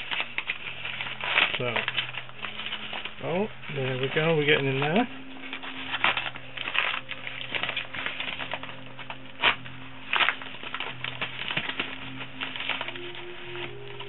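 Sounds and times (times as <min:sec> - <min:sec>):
knife rasping through paper: 0:00.0 - 0:14.0
padded envelope crinkling: 0:00.0 - 0:14.0.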